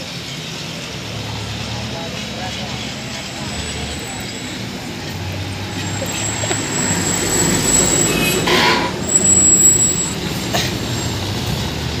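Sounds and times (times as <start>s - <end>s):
tractor pulling trailer: 0.0s - 12.0s
truck diesel engine passing: 0.7s - 12.0s.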